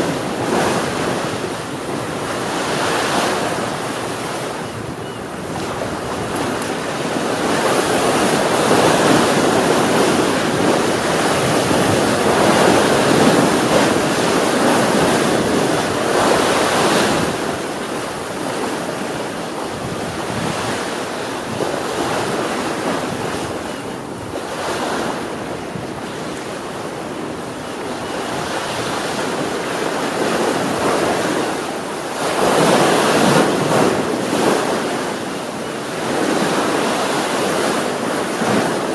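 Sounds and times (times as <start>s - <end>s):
ocean waves breaking on shore: 0.0s - 38.9s
wind buffeting microphone: 0.0s - 38.9s.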